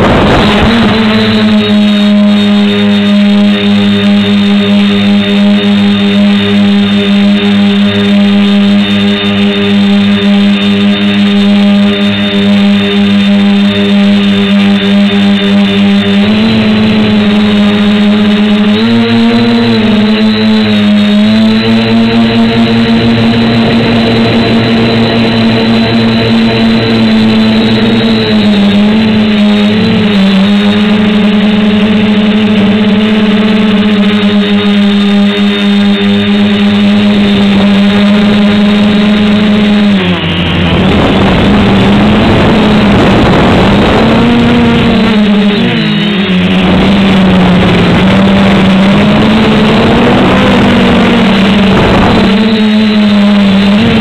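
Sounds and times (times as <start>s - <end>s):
quadcopter motors droning: 0.0s - 54.0s.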